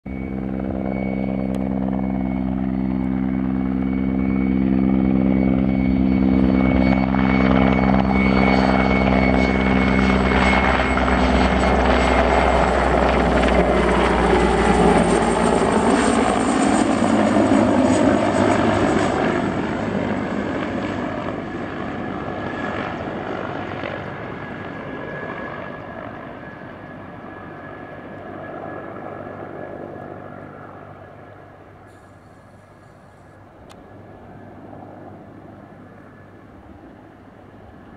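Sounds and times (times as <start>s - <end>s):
helicopter flying low past: 0.0s - 37.9s.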